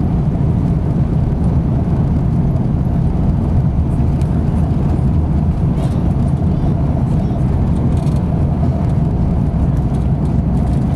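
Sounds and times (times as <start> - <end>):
vehicle interior rumble: 0.0 - 10.9.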